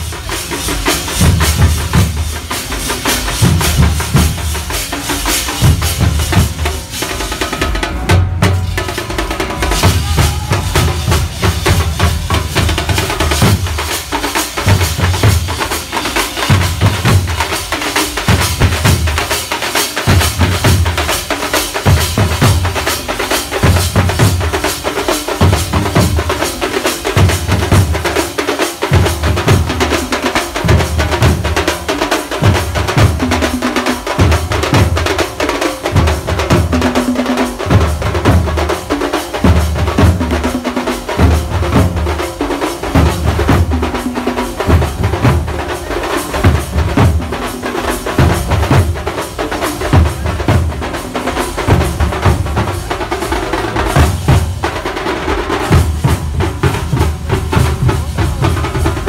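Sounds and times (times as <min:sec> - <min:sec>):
drummers playing drums: 0:00.0 - 0:59.0.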